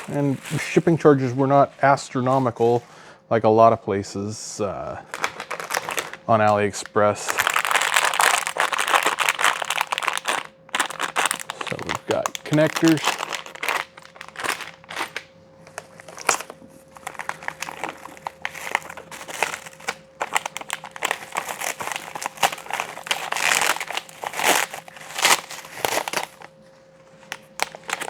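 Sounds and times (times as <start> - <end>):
plastic packaging crinkling: 0.0 - 0.8, 5.0 - 26.6, 27.2 - 28.0.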